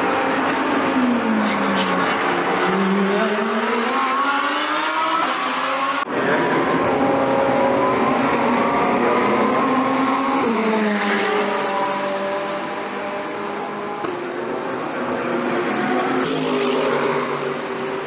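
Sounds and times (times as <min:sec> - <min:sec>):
race car engines revving high: 0:00.0 - 0:18.0.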